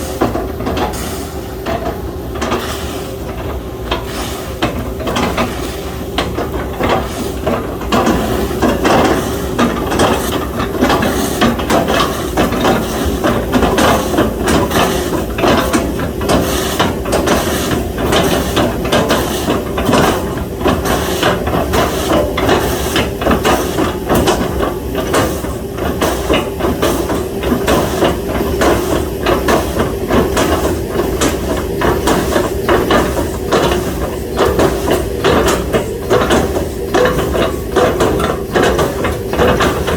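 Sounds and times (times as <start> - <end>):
excavator running under load: 0.0 - 39.9.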